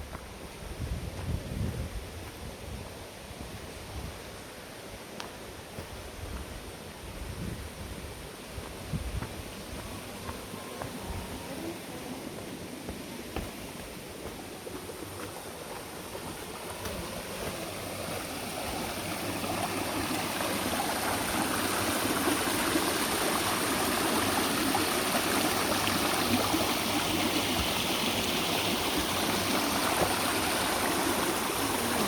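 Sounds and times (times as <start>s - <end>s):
stream water rushing and gurgling: 0.0s - 32.0s.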